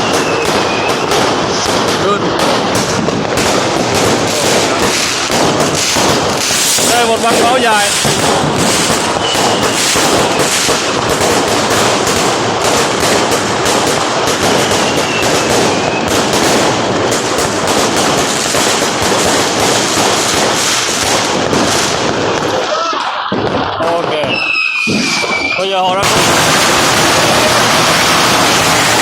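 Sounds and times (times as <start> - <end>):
firecrackers crackling: 0.0 - 29.0.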